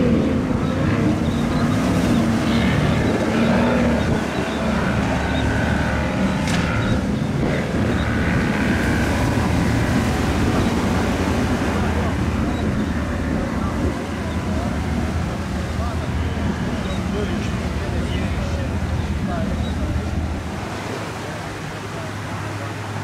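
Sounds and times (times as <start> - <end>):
wind on the microphone: 0.0 - 21.0
outboard motor running: 0.0 - 23.0
sea noise: 0.0 - 23.0.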